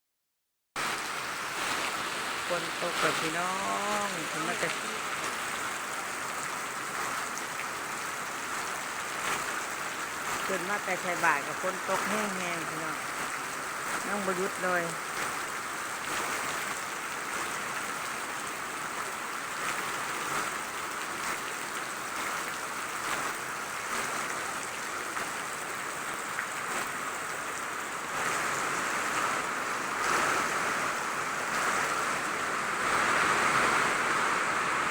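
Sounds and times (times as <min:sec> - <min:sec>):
steady rain falling: 0:00.8 - 0:34.9.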